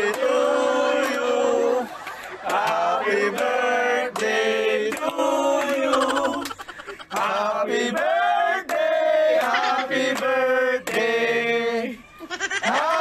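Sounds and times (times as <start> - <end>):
men singing in long notes: 0.0 - 6.5, 7.1 - 12.0.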